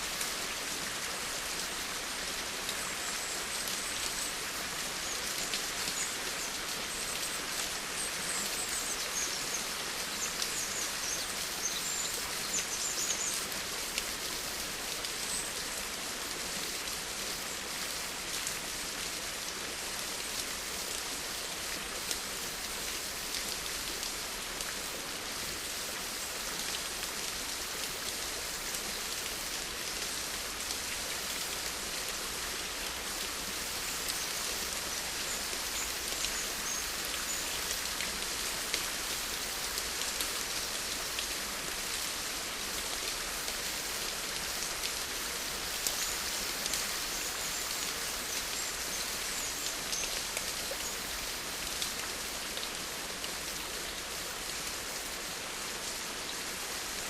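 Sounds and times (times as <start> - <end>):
rain patter on surface: 0.0 - 57.0.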